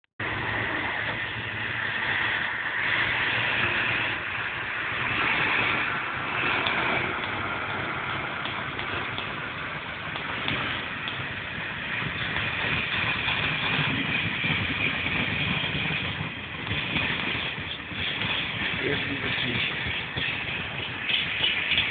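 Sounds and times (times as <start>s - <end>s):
electric locomotive whirring hiss: 0.2s - 21.9s
low hum: 0.2s - 21.9s
train wheels clicking over rails: 0.2s - 21.9s.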